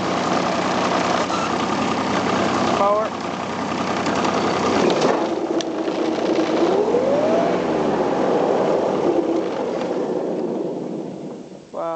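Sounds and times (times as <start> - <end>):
diesel mower running: 0.0 - 11.3.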